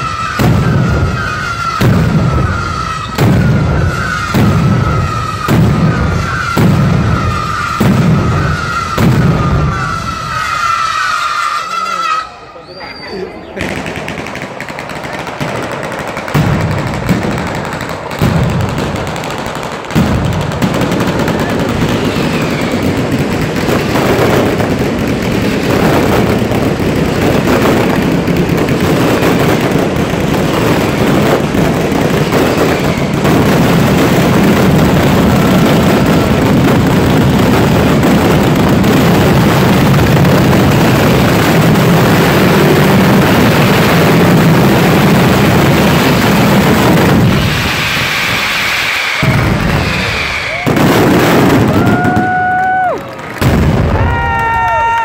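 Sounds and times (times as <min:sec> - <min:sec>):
loud firework bangs: 0:00.0 - 0:12.3, 0:13.5 - 0:55.0
rattle of firecracker explosions: 0:00.0 - 0:12.4, 0:13.3 - 0:55.0.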